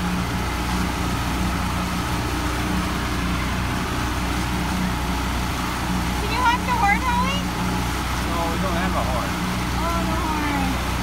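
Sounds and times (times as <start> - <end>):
outboard motor running: 0.0 - 11.0
rush of wind and water: 0.0 - 11.0.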